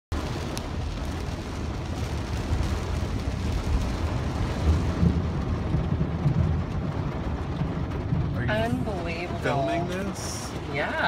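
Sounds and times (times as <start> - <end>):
heavy rain on car roof: 0.1 - 11.0.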